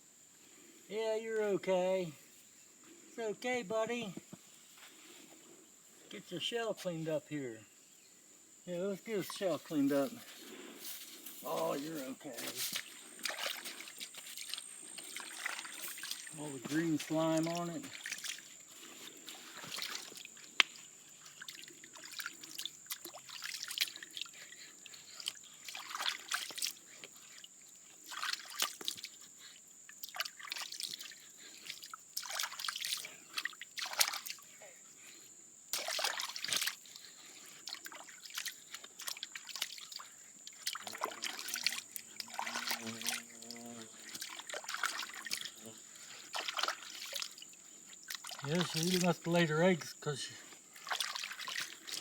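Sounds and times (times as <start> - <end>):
water splashing and trickling: 8.7 - 52.0.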